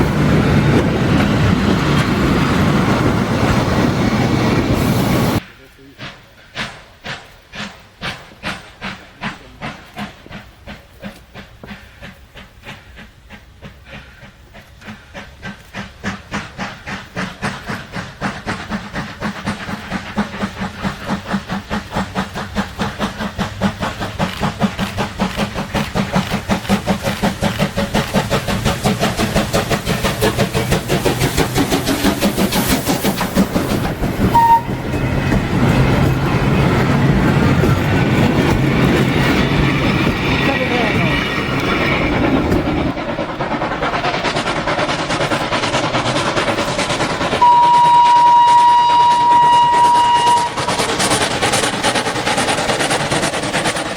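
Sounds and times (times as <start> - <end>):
steam locomotive exhaust beats: 0.0 - 53.9.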